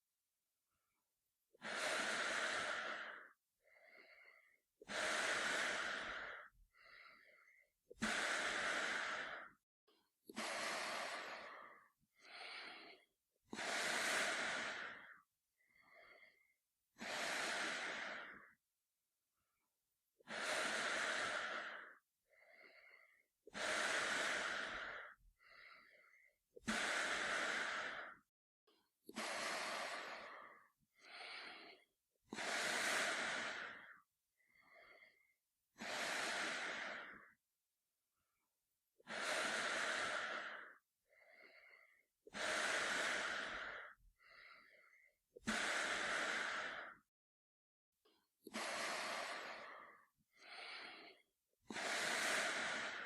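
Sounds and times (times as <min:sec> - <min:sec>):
man breathing through gas mask: 0:01.6 - 0:09.6, 0:10.3 - 0:18.6, 0:20.2 - 0:28.3, 0:29.1 - 0:37.4, 0:39.0 - 0:47.1, 0:48.5 - 0:53.0.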